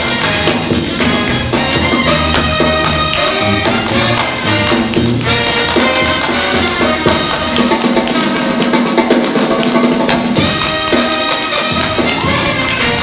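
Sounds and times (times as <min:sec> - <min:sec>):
brass band music: 0:00.0 - 0:13.0
tap shoes striking stage floor: 0:00.0 - 0:13.0.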